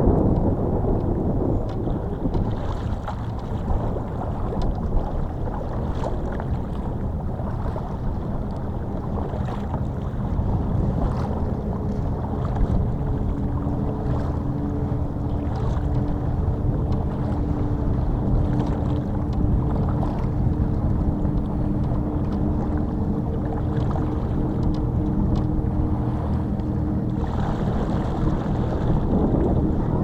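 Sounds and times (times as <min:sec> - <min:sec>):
boat motor droning: 0:00.0 - 0:30.0.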